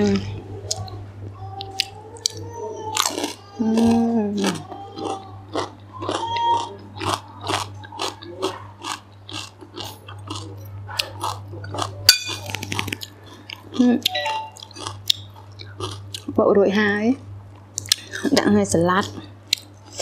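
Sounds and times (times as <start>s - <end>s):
person chewing and crunching: 0.0s - 16.4s, 17.5s - 20.0s.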